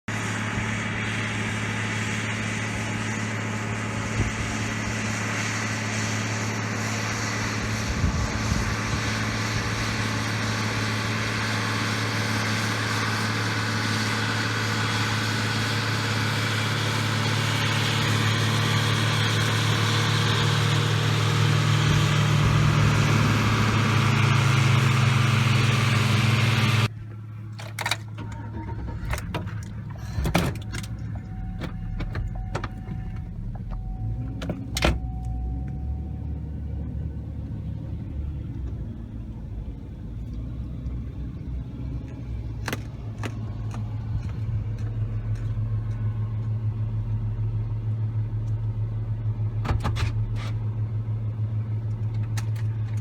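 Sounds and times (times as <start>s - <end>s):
tractor diesel engine running: 0.1s - 53.0s.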